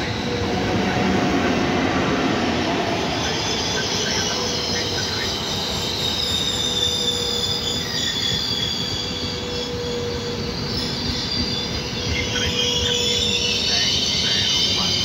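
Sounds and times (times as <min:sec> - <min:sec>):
train wheels squealing: 0:00.0 - 0:00.7, 0:02.9 - 0:15.0
train running noise: 0:00.0 - 0:15.0.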